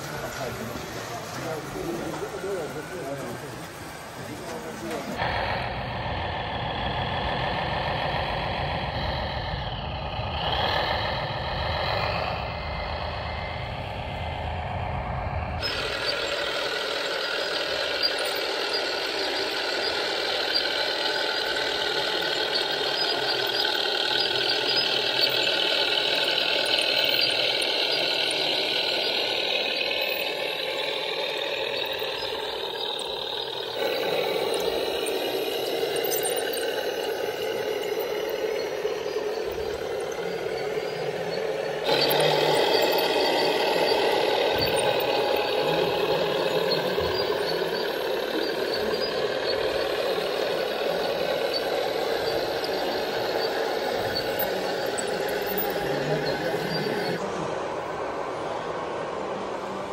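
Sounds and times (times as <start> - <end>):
model tractor motor hum: 0.0 - 58.1
model trucks driving: 0.0 - 59.9.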